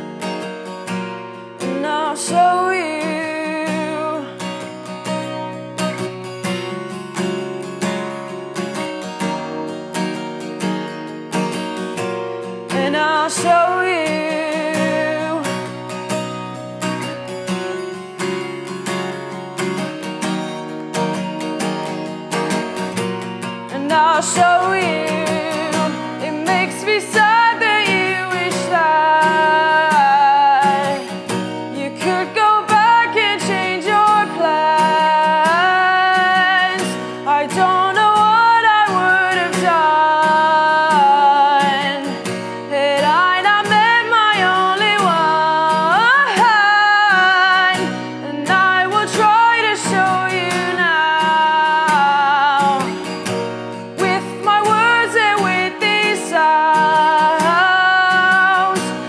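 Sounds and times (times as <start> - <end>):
guitar strumming: 0.0 - 59.0
woman singing: 0.0 - 59.0.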